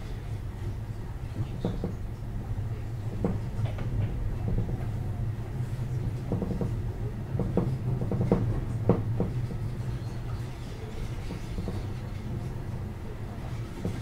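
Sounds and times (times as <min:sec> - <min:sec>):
train running low rumble: 0:00.0 - 0:14.0.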